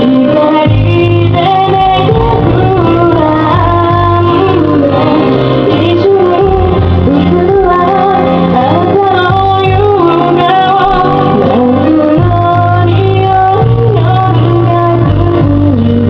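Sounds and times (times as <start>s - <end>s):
backing music: 0.0s - 16.0s
woman singing pop ballad: 0.0s - 16.0s.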